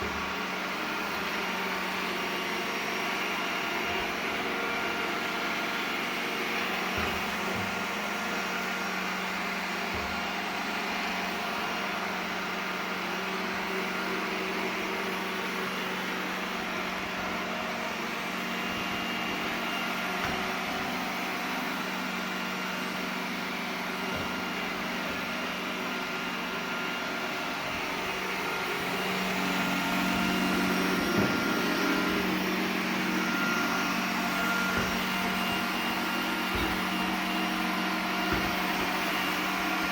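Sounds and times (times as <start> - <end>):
robot vacuum humming: 0.0 - 39.9.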